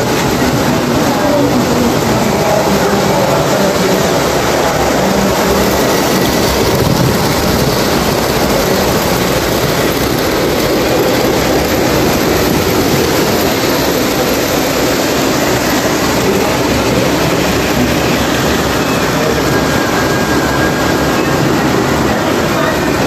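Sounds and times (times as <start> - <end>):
model trains rumbling on track: 0.0 - 23.0.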